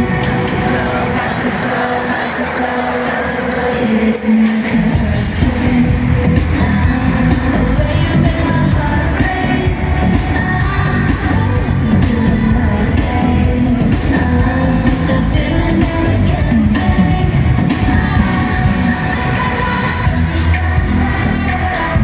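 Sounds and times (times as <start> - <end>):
pop backing track with heavy bass: 0.0 - 22.0
woman singing lead vocal: 0.0 - 22.0.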